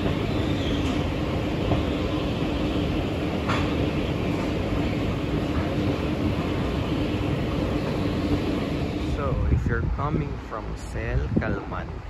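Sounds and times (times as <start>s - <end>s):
escalator mechanical rumble: 0.0s - 12.0s.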